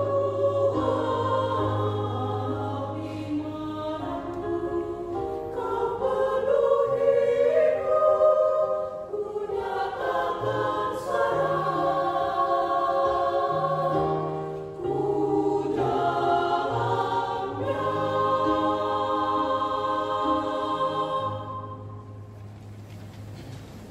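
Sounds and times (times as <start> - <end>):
church choir singing a hymn: 0.0 - 22.2.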